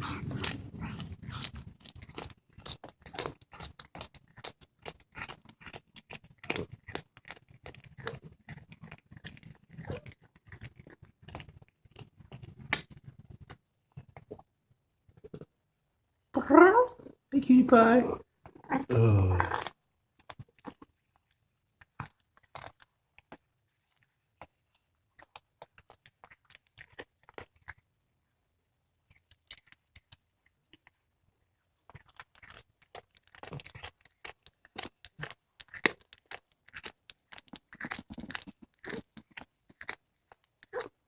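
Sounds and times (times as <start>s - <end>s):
cat crunching on bones: 0.0s - 14.4s, 18.4s - 27.8s, 29.1s - 31.0s, 31.8s - 41.0s.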